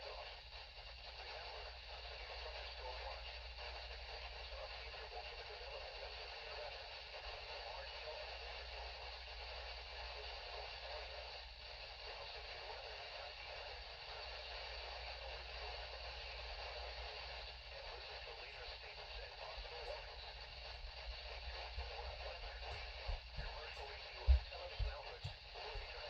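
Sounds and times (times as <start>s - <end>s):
radio receiver hiss: 0.0s - 26.0s.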